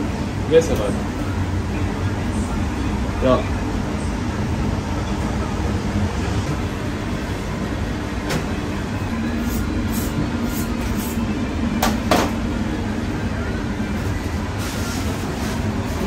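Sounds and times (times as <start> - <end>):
kitchen mechanical rumble: 0.0 - 16.0.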